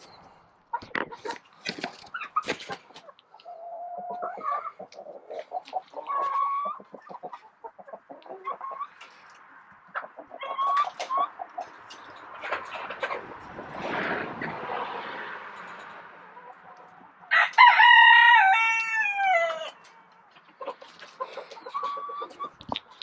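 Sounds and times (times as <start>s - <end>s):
chickens clucking: 0.0s - 23.0s
drawn-out chicken calls: 0.0s - 23.0s.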